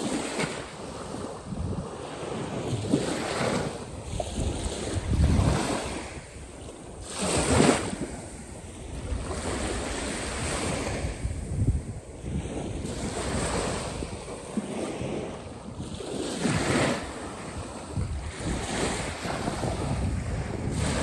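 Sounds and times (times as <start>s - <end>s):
waves breaking and washing: 0.0s - 21.0s
wind rumbling on microphone: 0.0s - 21.0s.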